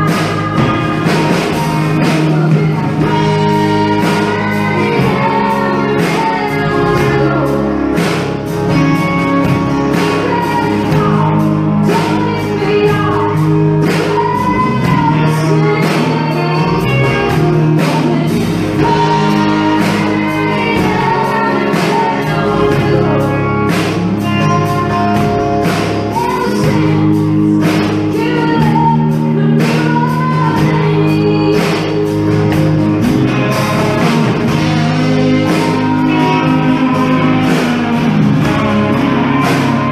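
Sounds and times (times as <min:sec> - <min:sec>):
guitar: 0:00.0 - 0:39.9
woman singing: 0:00.0 - 0:39.9.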